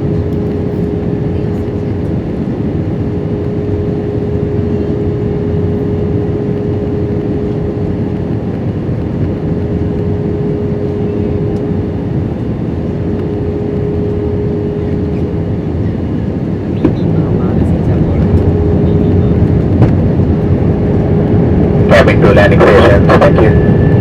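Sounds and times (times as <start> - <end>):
airplane cabin roar: 0.0 - 24.0
steady hum: 0.0 - 24.0.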